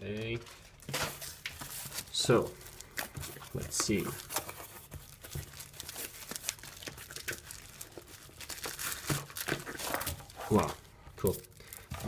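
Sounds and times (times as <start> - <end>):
packaging crinkling and tearing: 0.1 - 12.0.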